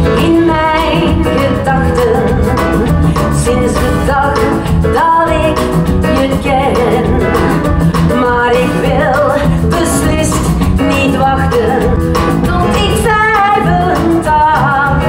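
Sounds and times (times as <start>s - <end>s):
drum kit: 0.0s - 15.0s
electric bass: 0.0s - 15.0s
keyboard: 0.0s - 15.0s
woman singing: 0.0s - 15.0s.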